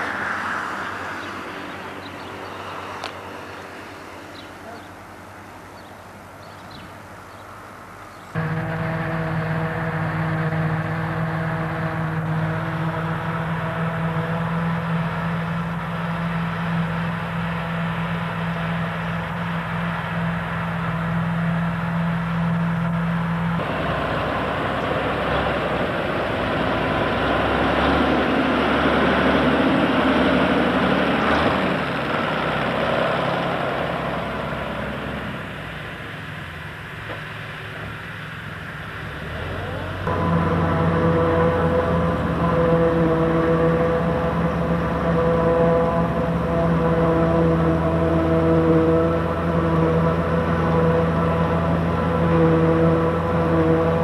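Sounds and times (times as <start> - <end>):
rough noisy machine: 8.3 - 54.0
tractor engine running: 8.3 - 54.0.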